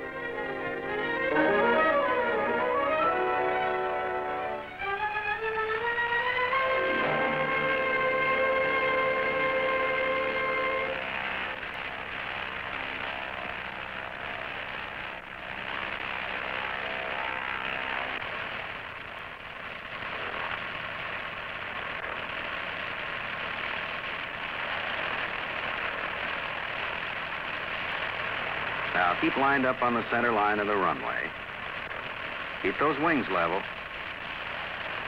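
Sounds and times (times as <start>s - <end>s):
airplane engine and propeller: 0.0s - 35.0s.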